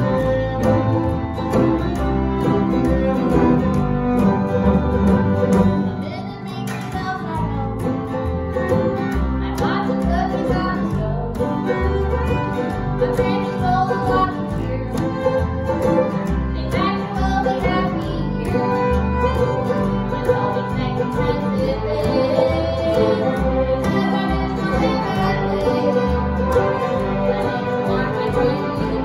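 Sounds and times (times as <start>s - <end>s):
violins and cellos holding chords: 0.0s - 6.3s, 7.7s - 29.0s
fiddle: 0.0s - 29.0s
mandolin: 0.0s - 29.0s
strummed acoustic guitar: 0.0s - 29.0s
upright bass notes: 0.0s - 29.0s.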